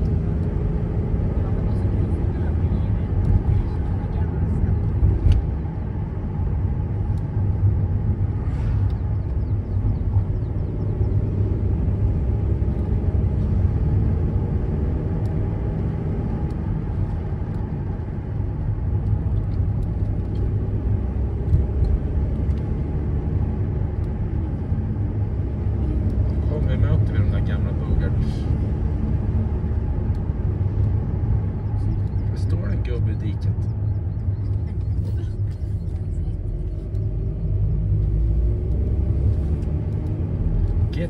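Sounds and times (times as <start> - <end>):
engine and tyre drone in cabin: 0.0 - 41.0.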